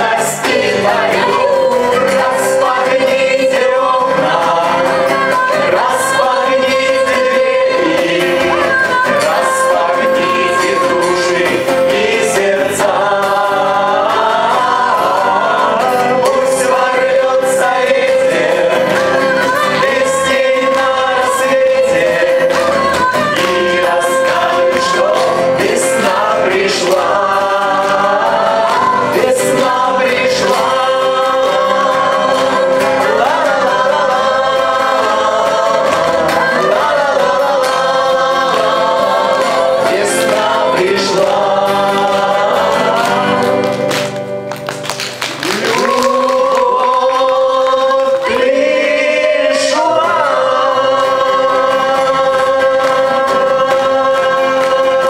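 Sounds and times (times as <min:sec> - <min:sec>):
group singing together: 0:00.0 - 0:44.4, 0:45.4 - 0:55.0
acoustic guitars: 0:00.0 - 0:55.0.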